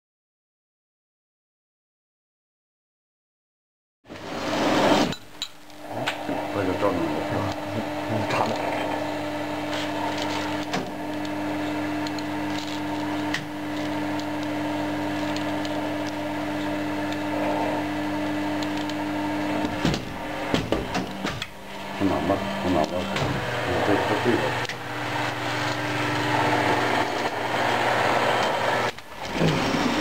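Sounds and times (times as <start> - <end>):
hydraulic pump motor humming: 4.1 - 30.0.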